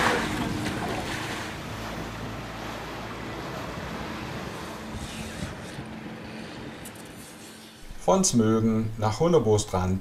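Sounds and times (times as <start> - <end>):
sea water rushing past hull: 0.0 - 8.2
wind: 0.0 - 10.0.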